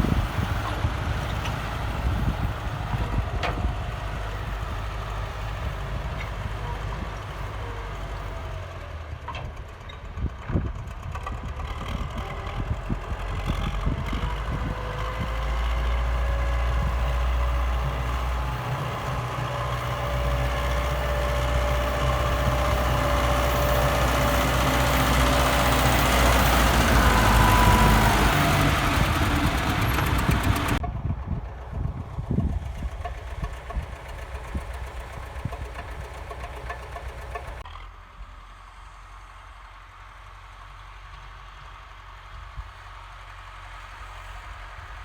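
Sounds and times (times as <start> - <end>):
diesel excavator engine working: 0.0 - 45.0.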